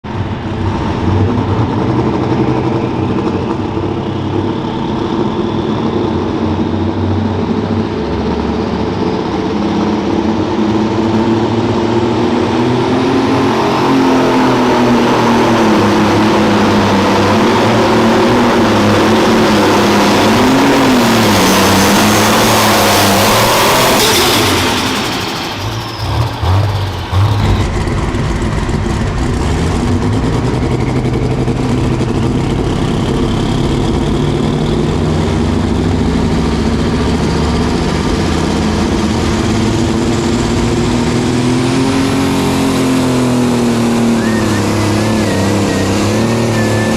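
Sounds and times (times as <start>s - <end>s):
tractor engine running hard: 0.0s - 46.9s.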